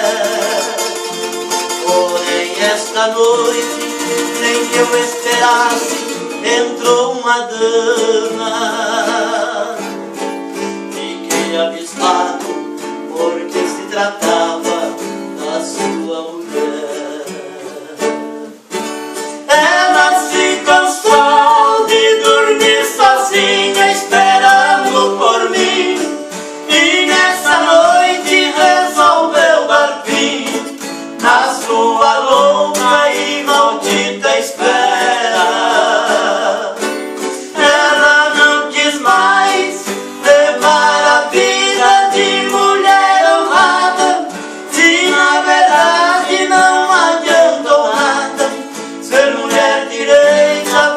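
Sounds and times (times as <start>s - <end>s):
person singing: 0.0s - 18.7s, 19.3s - 50.9s
plucked string instruments: 0.0s - 50.9s.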